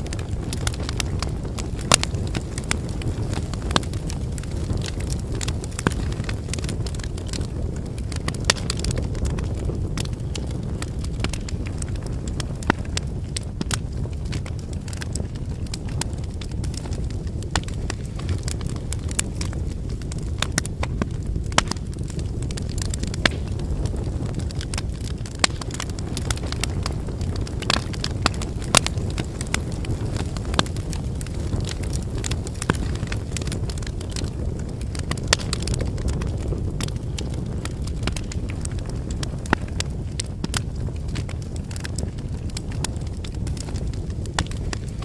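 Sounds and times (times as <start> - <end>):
campfire flames rumbling: 0.0 - 45.0
firewood crackling and popping: 0.0 - 45.0.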